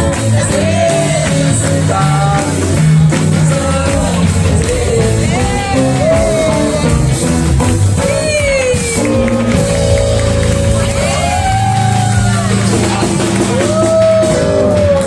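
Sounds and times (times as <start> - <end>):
person singing with rock band: 0.0 - 15.0.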